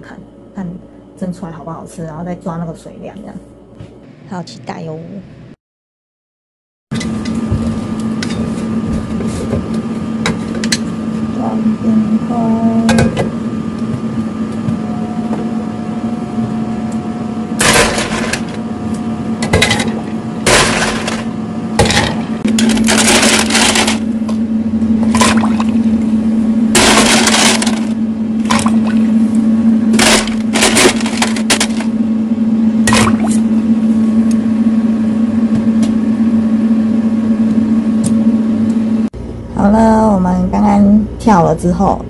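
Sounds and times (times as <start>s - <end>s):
electric cooker low hum: 0.0s - 5.5s, 7.0s - 42.0s.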